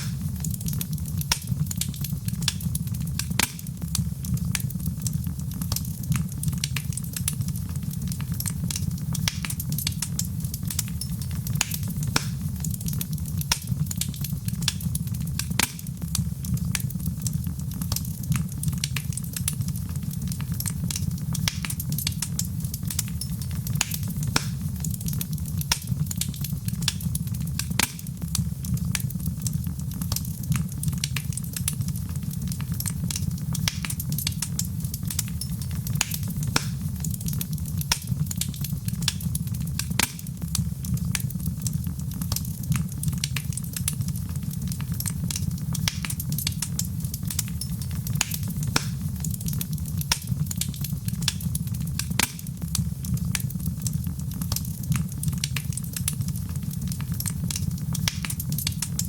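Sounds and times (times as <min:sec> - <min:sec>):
low fire rumble: 0:00.0 - 0:59.0
wood fire crackling: 0:00.0 - 0:59.0.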